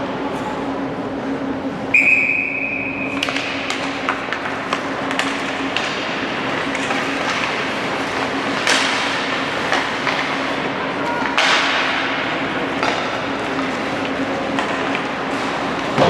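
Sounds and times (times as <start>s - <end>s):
hockey sticks and puck on ice: 2.8s - 16.0s.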